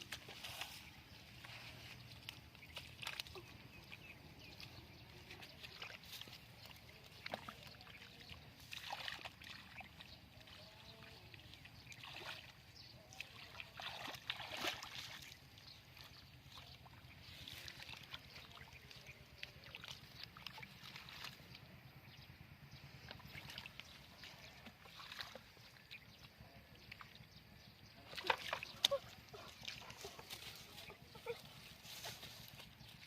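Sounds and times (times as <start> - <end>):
shallow water splashing: 0.0 - 21.8, 22.9 - 26.2, 26.8 - 31.6.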